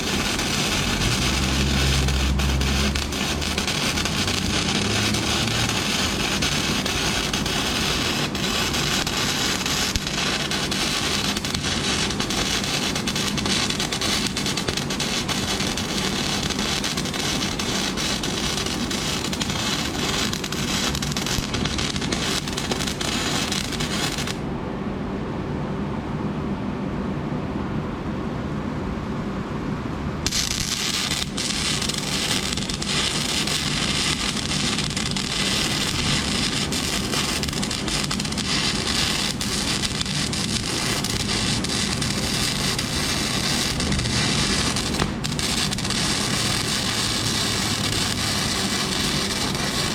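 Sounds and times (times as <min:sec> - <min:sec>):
welding arc crackling and sizzling: 0:00.0 - 0:24.4, 0:30.2 - 0:49.9.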